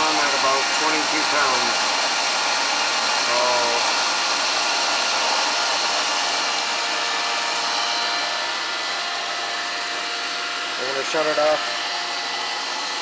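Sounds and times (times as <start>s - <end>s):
water pump motor whirring: 0.0s - 13.0s.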